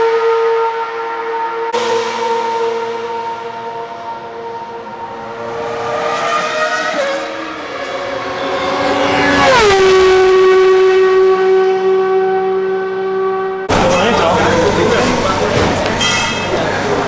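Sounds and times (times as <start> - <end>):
race car engine passing at speed: 0.0 - 15.9.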